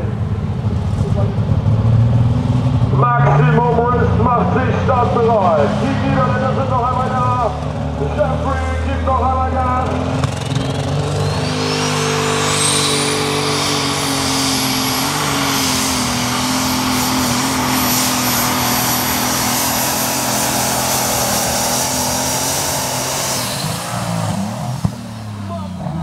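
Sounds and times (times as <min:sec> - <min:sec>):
tractor engine running loud: 0:00.0 - 0:26.0.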